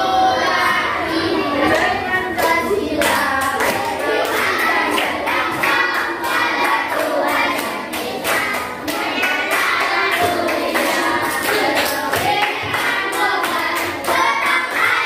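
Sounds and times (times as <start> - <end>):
children singing: 0.0 - 15.0
children clapping a beat: 1.6 - 15.0.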